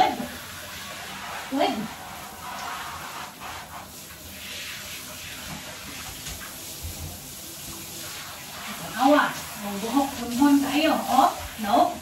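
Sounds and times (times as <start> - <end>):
water running into bathtub: 0.0 - 12.0.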